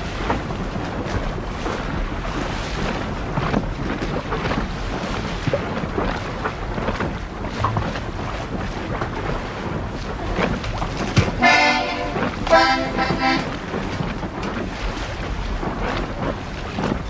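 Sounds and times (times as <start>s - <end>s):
waves splashing: 0.0s - 17.0s.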